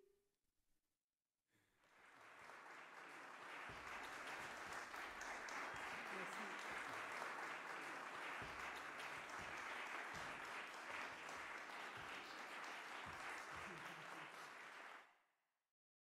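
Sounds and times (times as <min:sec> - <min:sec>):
audience applause: 0:01.8 - 0:15.1.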